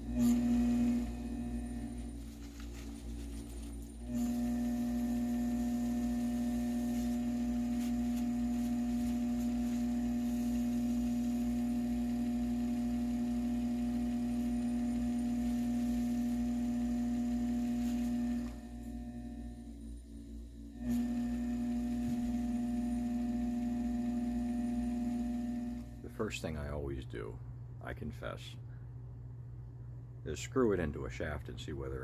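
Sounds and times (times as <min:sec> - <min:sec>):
lathe motor humming: 0:00.0 - 0:26.0.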